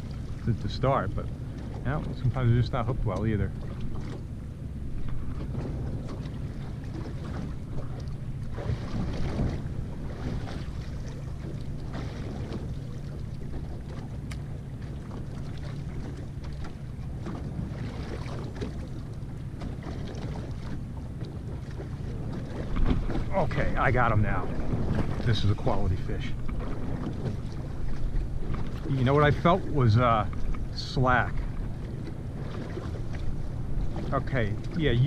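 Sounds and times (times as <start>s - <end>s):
low steady motor drone: 0.0s - 35.0s
water slapping against boat hull: 0.0s - 35.0s.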